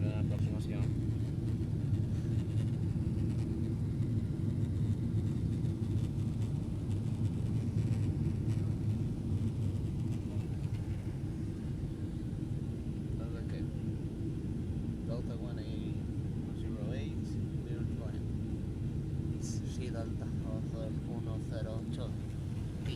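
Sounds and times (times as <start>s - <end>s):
airliner cabin rumble: 0.0s - 22.9s.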